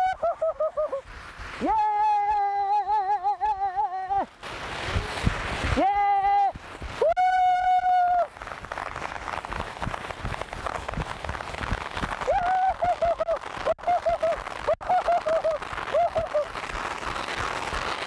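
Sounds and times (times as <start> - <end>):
firework fountains crackling: 0.0 - 18.0.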